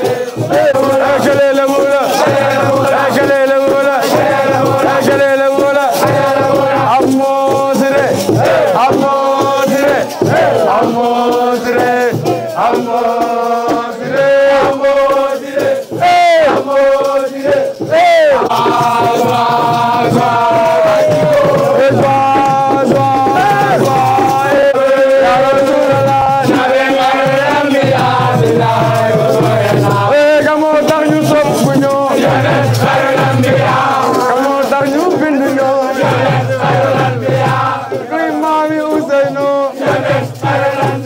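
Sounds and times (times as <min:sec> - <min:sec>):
group chanting a song: 0:00.0 - 0:41.0.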